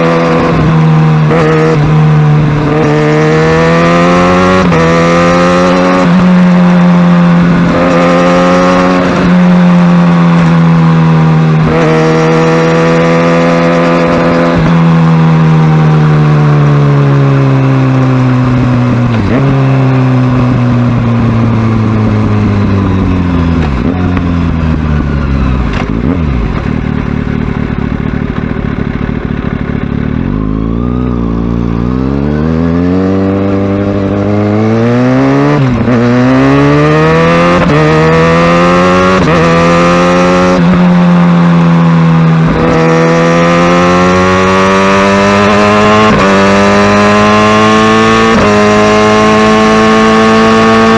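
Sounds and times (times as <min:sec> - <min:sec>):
motorcycle engine shifting gears: 0:00.0 - 0:50.9.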